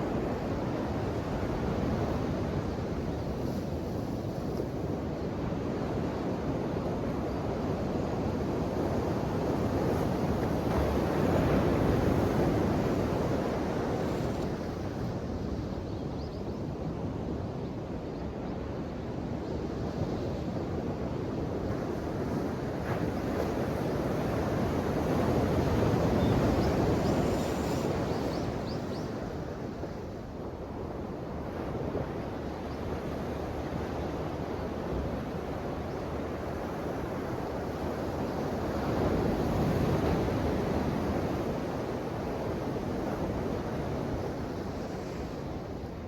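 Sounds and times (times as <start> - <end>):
ocean waves washing on shore: 0.0 - 15.9, 18.9 - 46.0.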